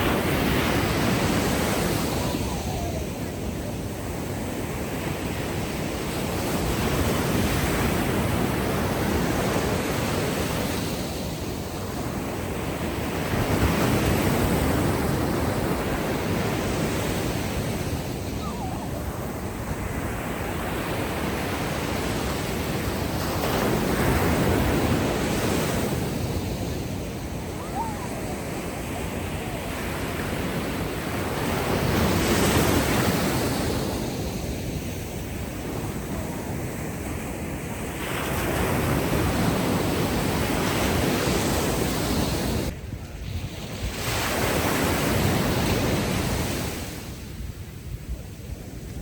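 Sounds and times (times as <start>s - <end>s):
ocean waves on sandy beach: 0.0s - 49.0s.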